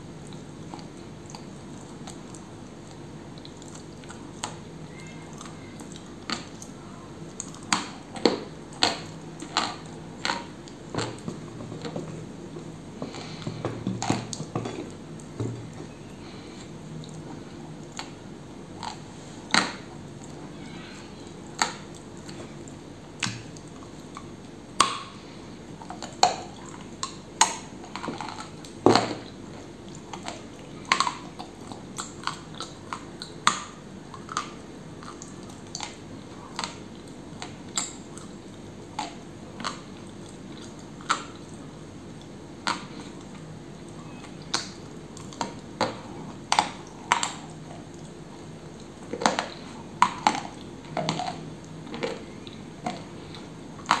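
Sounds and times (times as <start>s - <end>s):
crunching and chewing: 0.2s - 54.0s.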